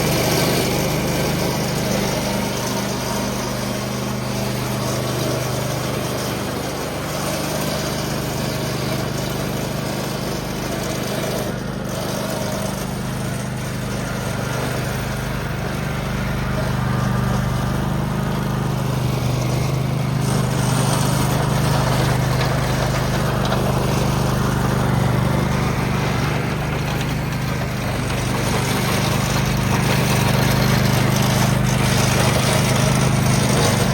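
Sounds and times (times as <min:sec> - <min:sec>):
riding mower engine running: 0:00.0 - 0:33.9.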